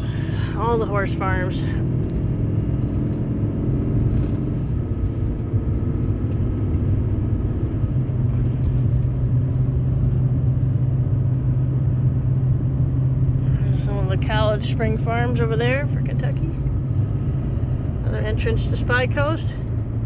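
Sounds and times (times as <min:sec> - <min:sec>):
vehicle engine and road drone: 0:00.0 - 0:20.0.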